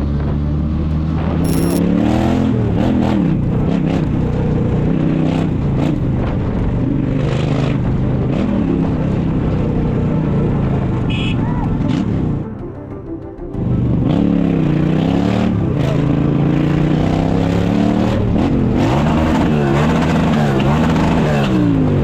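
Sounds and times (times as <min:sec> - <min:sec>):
road and wind noise: 0:00.0 - 0:12.5, 0:13.6 - 0:22.0
motorcycle engine accelerating: 0:01.2 - 0:11.0, 0:13.7 - 0:22.0.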